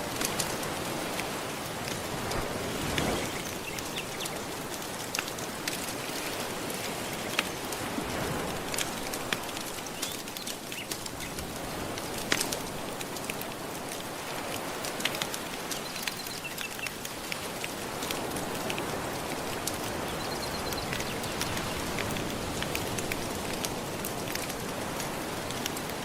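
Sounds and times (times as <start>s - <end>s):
wood fire crackling and popping: 0.0s - 2.1s, 2.8s - 26.0s
ocean waves washing ashore: 0.0s - 26.0s.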